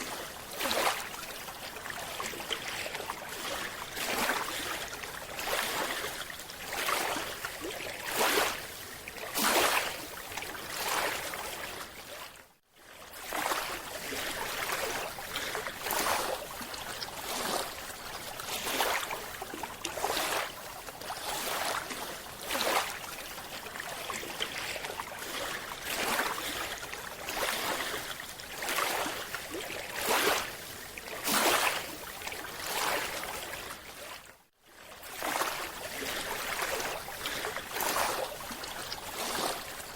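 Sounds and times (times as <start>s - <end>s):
surging water: 0.0s - 39.9s.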